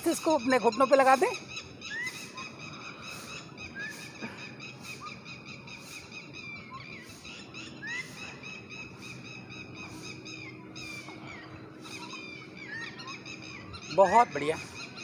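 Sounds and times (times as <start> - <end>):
birds chirping: 0.0 - 15.0
high-pitched bird chatter: 0.0 - 15.0.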